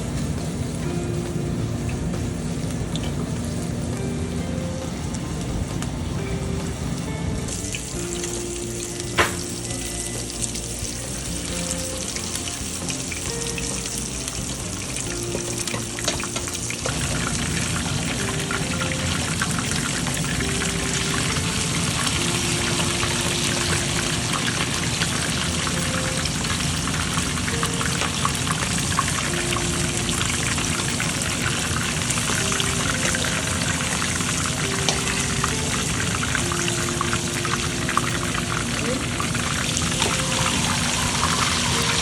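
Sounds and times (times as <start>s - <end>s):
background music: 0.0s - 42.0s
fish sizzling in hot oil: 7.5s - 42.0s.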